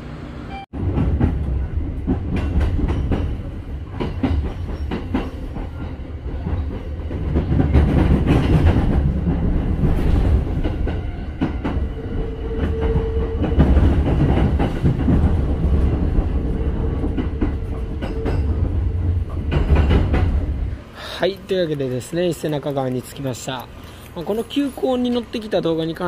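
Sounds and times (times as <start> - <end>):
electric train rumbling: 0.0 - 26.0
wheels clacking over rail joints: 0.8 - 20.7, 21.3 - 26.0.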